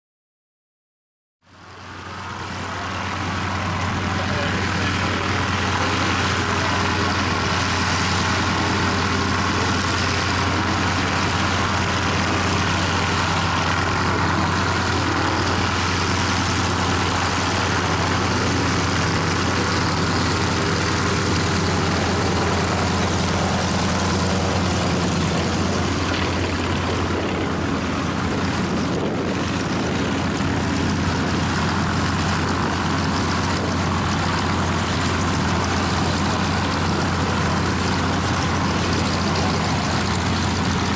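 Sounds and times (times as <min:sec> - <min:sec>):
radial engine and propeller droning: 0:01.5 - 0:40.9.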